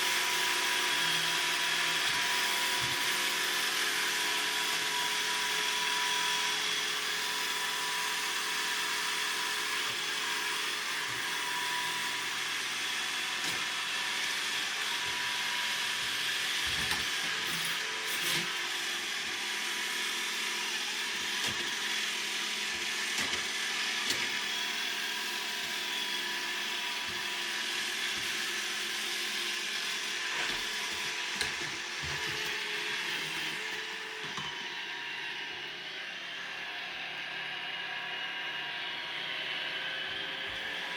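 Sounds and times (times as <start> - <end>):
robot vacuum cleaner running: 0.0 - 40.9.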